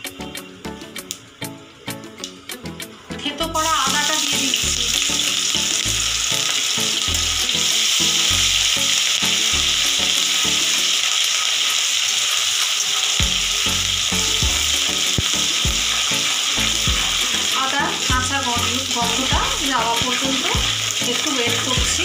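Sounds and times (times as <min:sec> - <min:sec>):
ginger sizzling in hot oil: 0:00.0 - 0:22.0.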